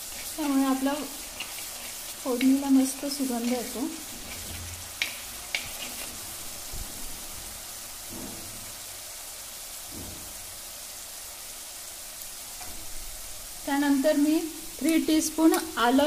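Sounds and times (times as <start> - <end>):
garlic sizzling in oil: 0.0 - 16.0.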